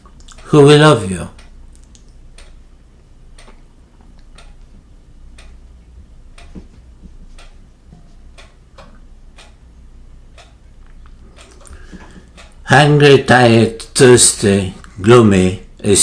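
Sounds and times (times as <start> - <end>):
clock ticking: 0.0 - 16.0
low steady hum: 0.0 - 16.0.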